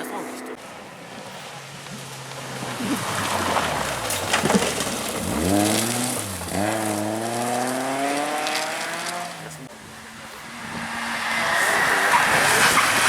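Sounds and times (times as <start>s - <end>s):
rally car engine accelerating: 0.0s - 13.0s
tyre noise rush: 0.6s - 13.0s.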